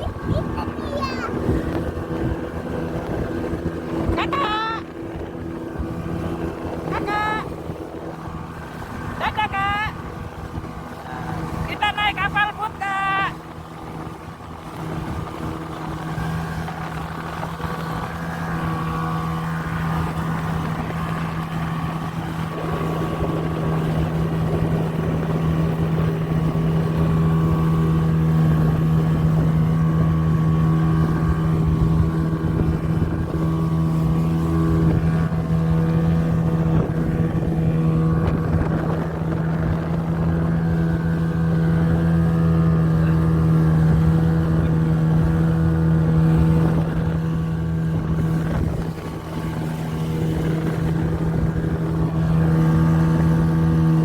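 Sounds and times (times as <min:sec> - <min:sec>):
speedboat engine running: 0:00.0 - 0:54.0.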